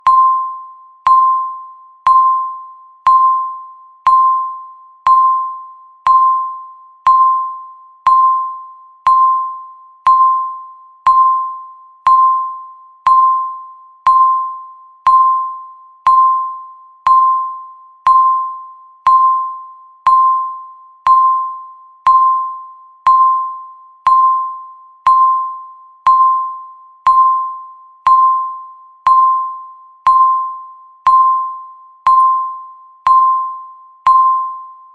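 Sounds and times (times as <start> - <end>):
bell-like timer beeps: 0.0 - 34.9.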